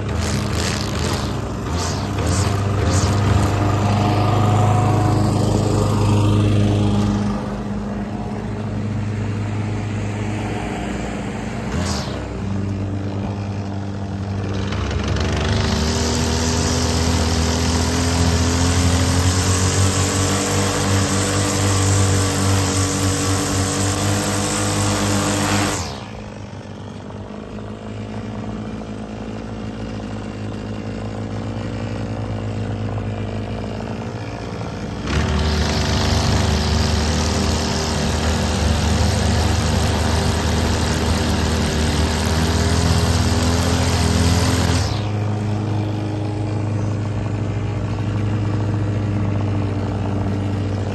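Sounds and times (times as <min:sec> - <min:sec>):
spinning trimmer line hissing: 0:00.0 - 0:27.0, 0:32.9 - 0:50.9
string trimmer engine running: 0:00.0 - 0:50.9.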